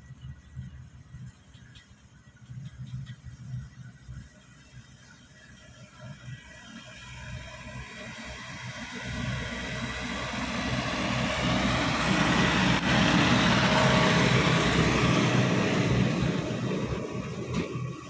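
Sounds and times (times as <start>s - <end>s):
diesel tractor engine rumble: 0.0s - 18.0s.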